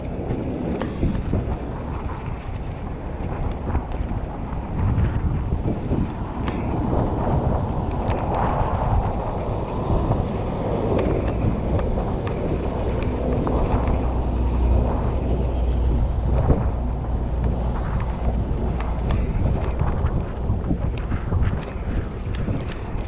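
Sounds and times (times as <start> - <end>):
small clicks and rattles: 0.0 - 23.0
steady low rumble: 0.0 - 23.0
wind buffeting microphone: 0.0 - 23.0.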